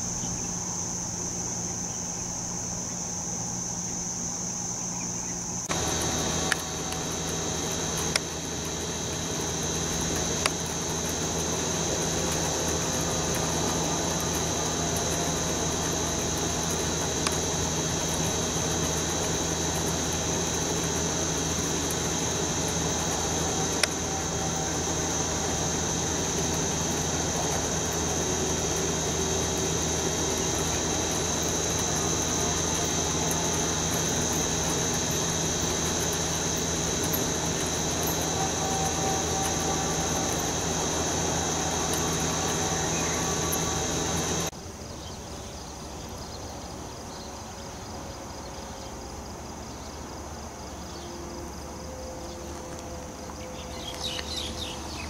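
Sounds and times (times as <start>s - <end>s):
high-pitched insect drone: 0.0s - 55.0s
low machine hum: 0.0s - 55.0s.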